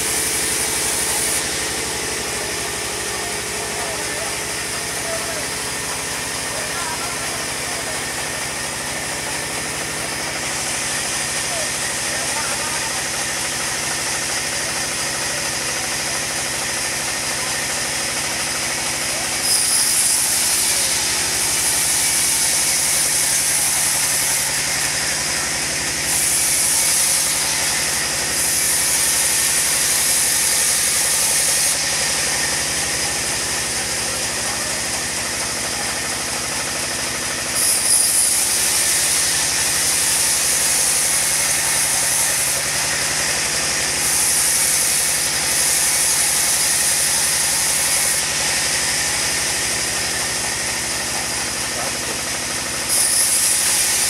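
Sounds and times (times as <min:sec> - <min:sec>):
band saw cutting log: 0:00.0 - 0:54.0.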